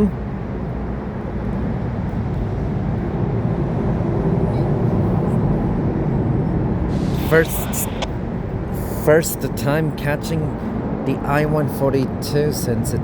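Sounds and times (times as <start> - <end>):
diesel locomotive engines running: 0.0 - 13.0.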